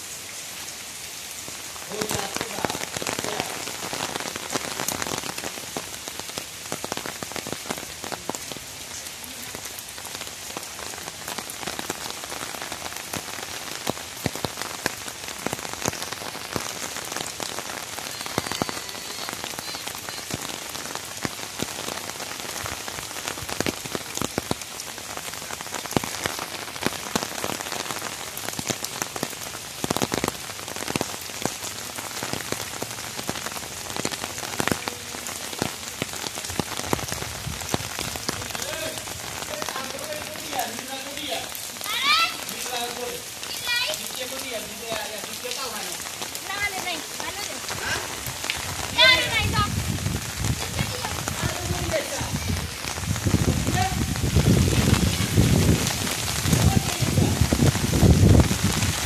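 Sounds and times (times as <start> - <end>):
raindrops pattering: 0.0 - 59.0
steady rain: 0.0 - 59.0.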